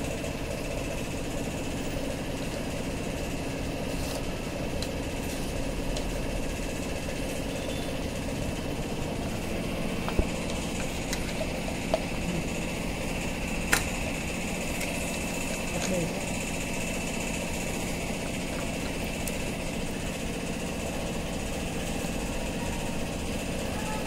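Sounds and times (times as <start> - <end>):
motor droning: 0.0 - 24.0.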